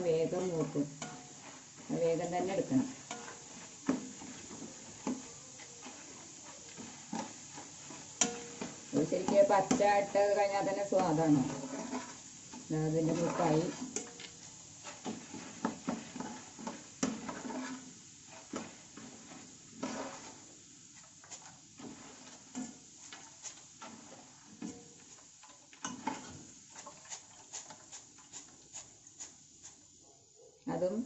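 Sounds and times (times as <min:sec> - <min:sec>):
metal ladle scraping a pan: 0:00.0 - 0:29.8
faint sizzle of frying: 0:00.0 - 0:31.0.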